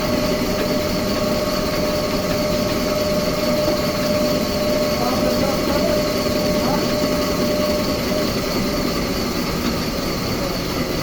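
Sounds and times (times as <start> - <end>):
faint machine whine: 0.0 - 11.0
sawmill machinery drone: 0.0 - 11.0.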